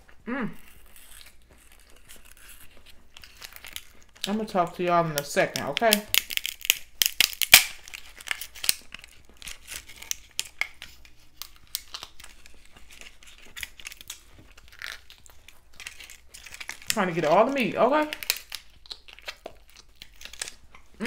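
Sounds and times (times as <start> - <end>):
fried shell crackling and tearing: 0.6 - 21.0.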